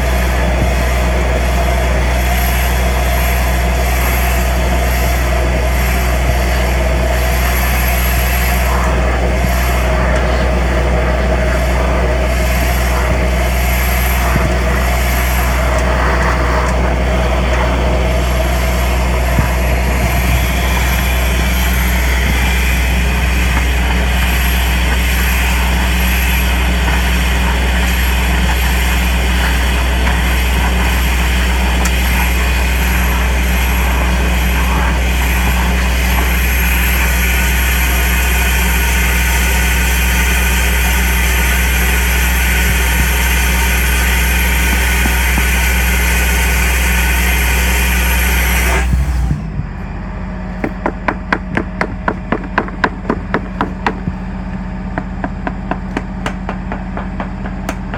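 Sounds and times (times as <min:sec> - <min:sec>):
vacuum excavation machine humming: 0:00.0 - 0:57.9.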